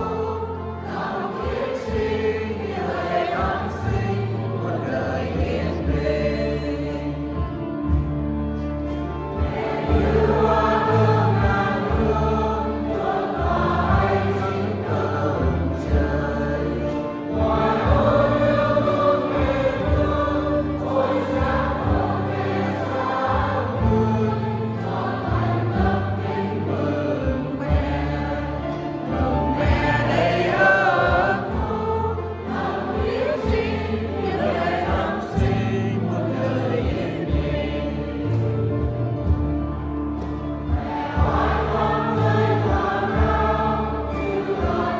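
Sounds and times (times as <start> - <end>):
church choir singing a hymn: 0.0 - 44.9
instrumental accompaniment: 0.0 - 44.9.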